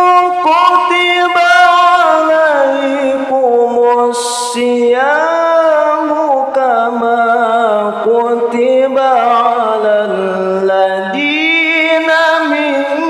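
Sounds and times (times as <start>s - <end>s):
man reciting melodically into microphone: 0.0s - 13.0s.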